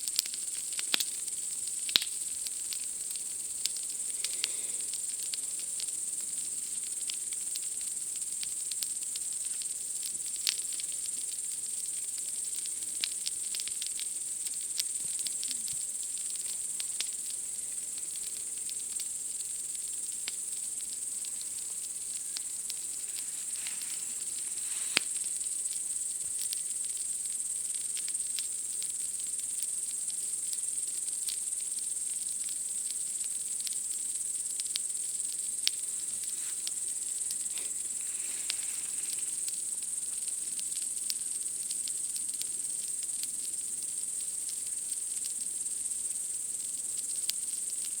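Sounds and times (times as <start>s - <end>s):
campfire crackling and popping: 0.0s - 48.0s
night insects chirring: 0.0s - 48.0s.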